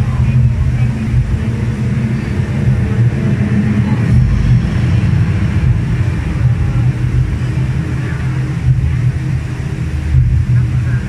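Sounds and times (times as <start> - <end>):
indoor waterfall rumbling: 0.0 - 11.0.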